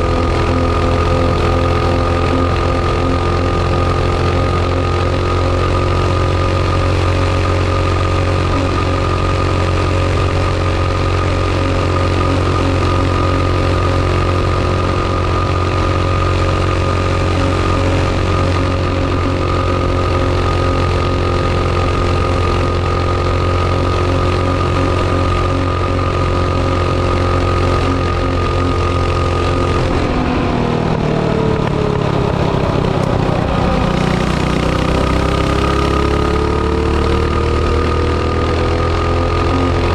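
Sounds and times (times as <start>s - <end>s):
small motorcycle engine running: 0.0s - 39.9s.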